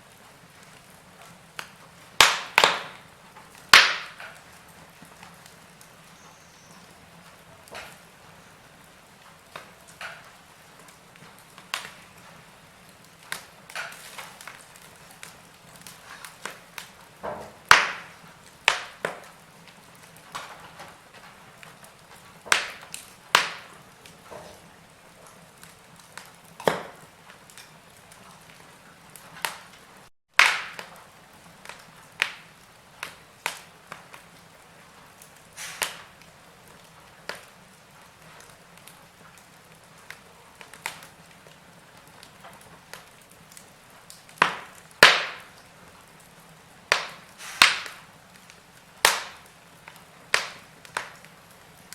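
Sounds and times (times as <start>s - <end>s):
faint steady hiss: 0.0s - 51.9s
wood fire crackling: 0.0s - 51.9s.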